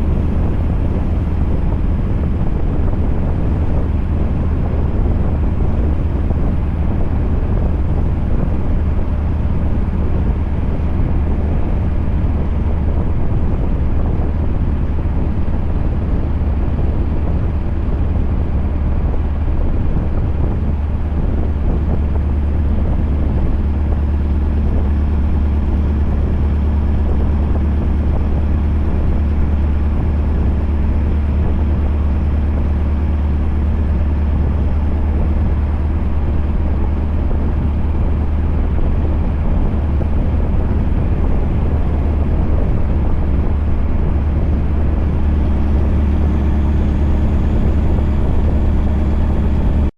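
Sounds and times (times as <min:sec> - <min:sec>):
truck engine and road drone: 0:00.0 - 0:49.9.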